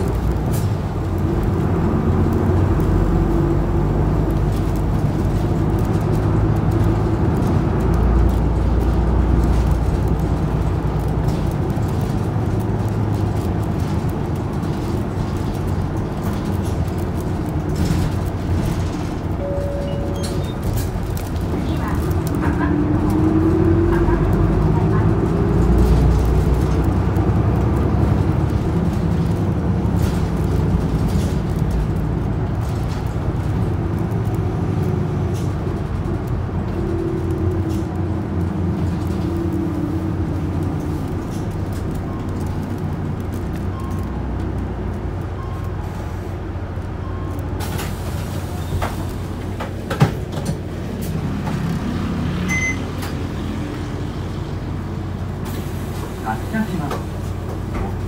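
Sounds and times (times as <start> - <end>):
bus diesel engine droning: 0.0 - 58.0
road noise hiss: 0.0 - 58.0.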